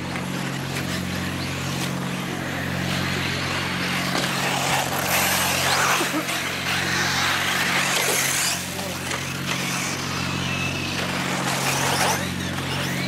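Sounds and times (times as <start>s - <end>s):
electric rc cars whining: 0.0s - 13.0s
steady low hum: 0.0s - 13.0s.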